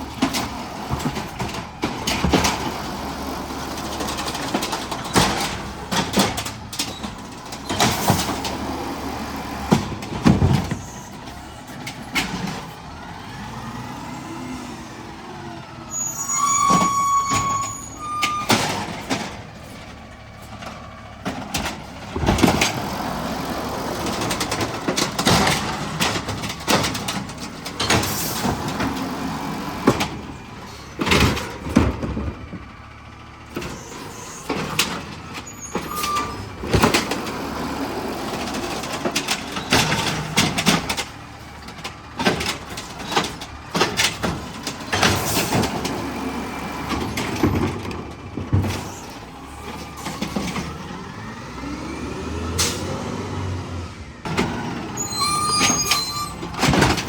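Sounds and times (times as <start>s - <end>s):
clanks and bangs: 0.0s - 13.0s, 16.5s - 32.9s, 33.5s - 51.0s, 54.2s - 57.0s
garbage truck engine running: 0.0s - 57.0s.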